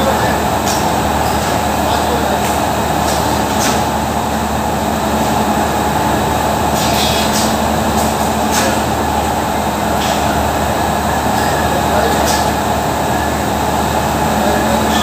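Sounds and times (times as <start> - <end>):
factory machinery drone: 0.0 - 15.0.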